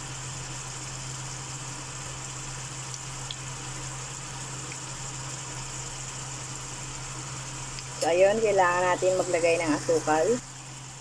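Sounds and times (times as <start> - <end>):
constant low hum: 0.0 - 11.0
food sizzling in a wok: 0.0 - 11.0.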